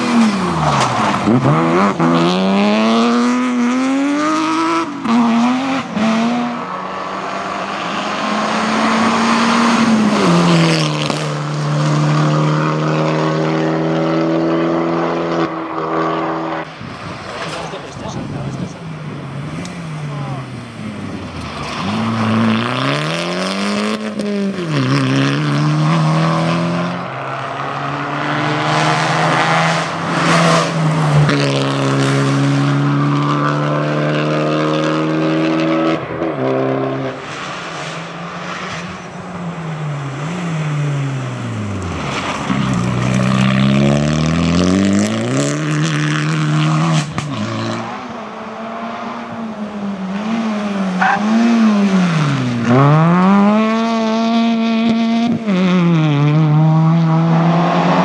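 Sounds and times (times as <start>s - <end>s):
rally cars racing past: 0.0s - 58.0s.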